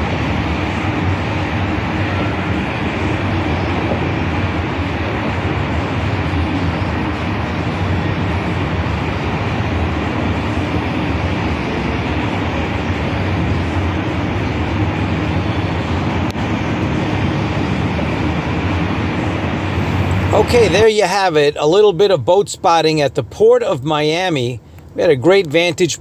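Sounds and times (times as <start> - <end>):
steady outdoor rumble: 0.0 - 26.0.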